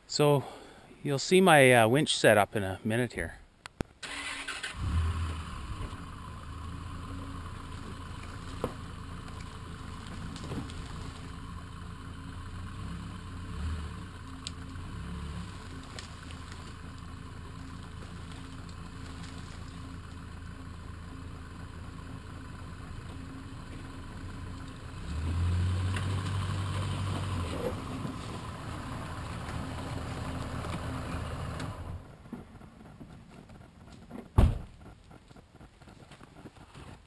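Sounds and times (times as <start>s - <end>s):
truck engine running at low revs: 4.8s - 37.0s.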